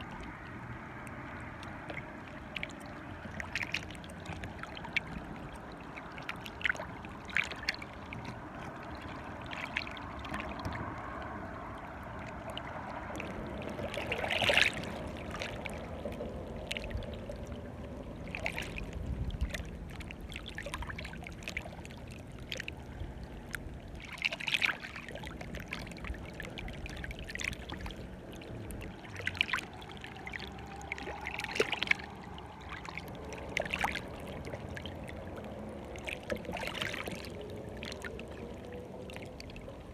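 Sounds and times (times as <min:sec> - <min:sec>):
small waves lapping and splashing: 0:00.0 - 0:39.9.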